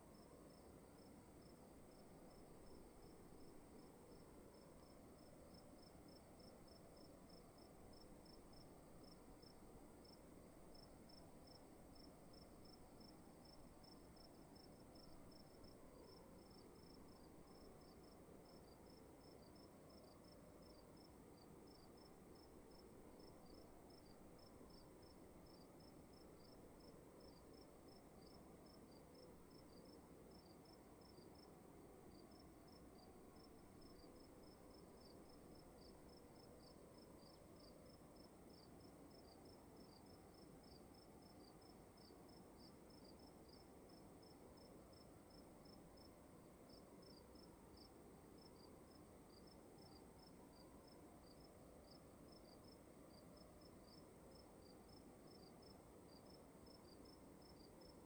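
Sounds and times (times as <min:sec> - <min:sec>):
crickets chirping: 0:00.1 - 0:58.0.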